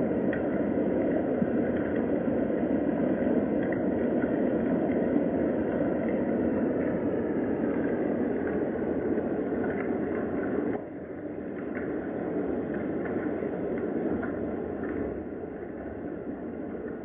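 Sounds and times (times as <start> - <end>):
raindrop ticks: 0.2 - 2.2, 3.2 - 16.0.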